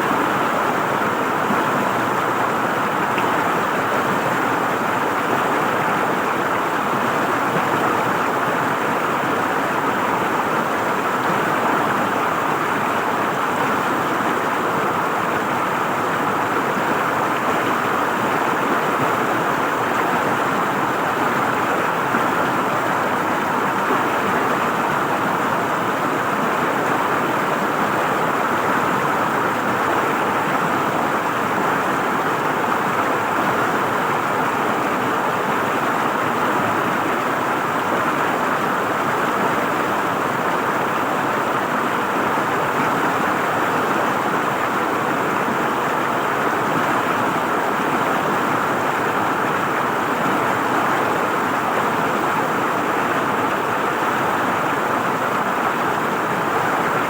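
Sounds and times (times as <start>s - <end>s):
river water over stones: 0.0s - 57.0s.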